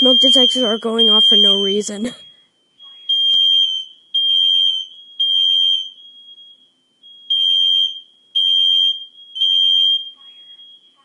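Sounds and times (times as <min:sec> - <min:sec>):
smoke alarm beeps: 0:00.0 - 0:11.0.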